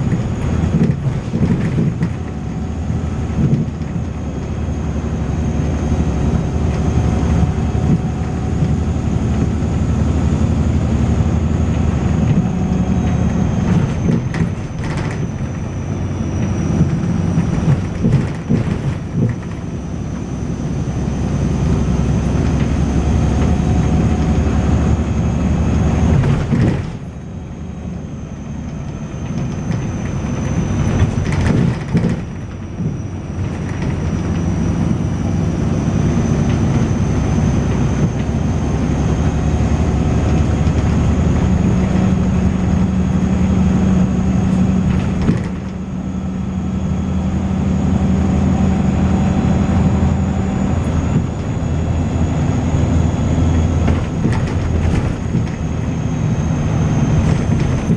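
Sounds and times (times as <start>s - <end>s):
bus engine drone: 0.0s - 57.9s.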